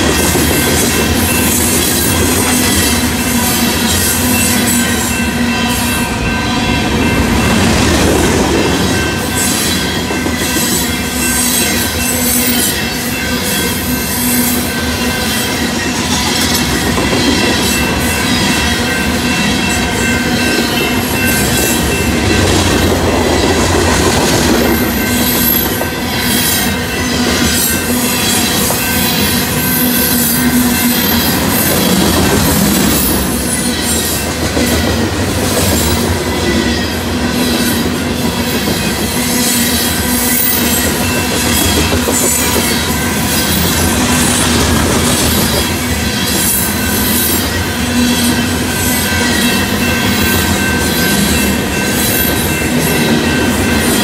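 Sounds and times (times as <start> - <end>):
train wheels rolling on rail: 0.0 - 54.0.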